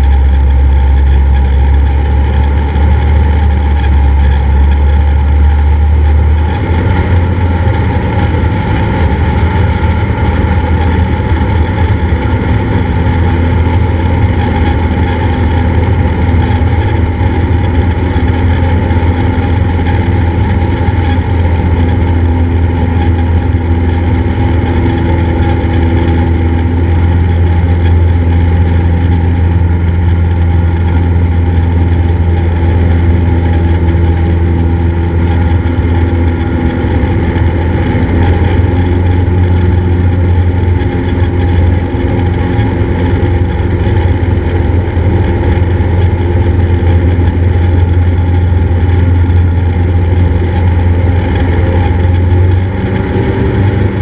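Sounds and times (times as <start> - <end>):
airplane engine and propeller droning: 0.0 - 54.0.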